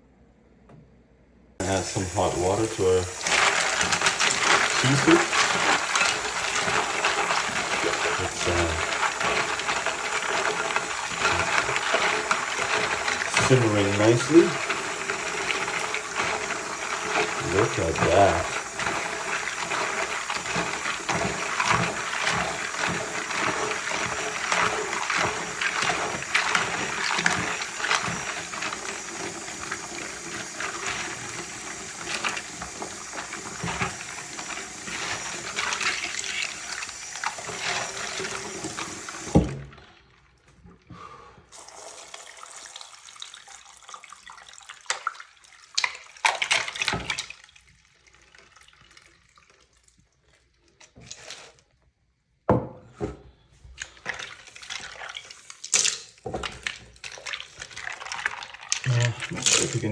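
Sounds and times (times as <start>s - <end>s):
water sloshing in a pot: 1.6s - 51.6s, 53.6s - 59.9s.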